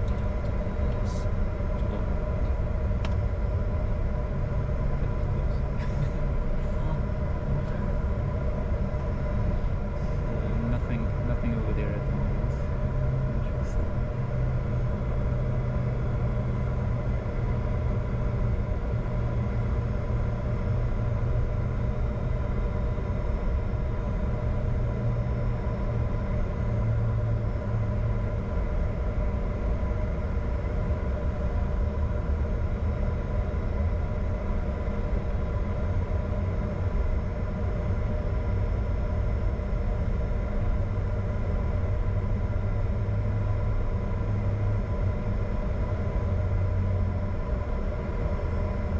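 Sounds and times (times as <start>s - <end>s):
jet cockpit engine rumble: 0.0s - 48.9s
steady whining tones: 0.0s - 48.9s.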